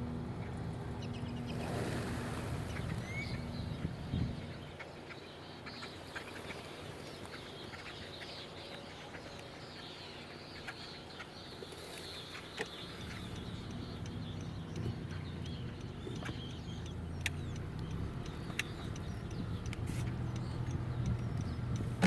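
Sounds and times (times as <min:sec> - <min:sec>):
car engine humming: 0:00.0 - 0:22.0
flock of birds chirping: 0:00.0 - 0:22.0.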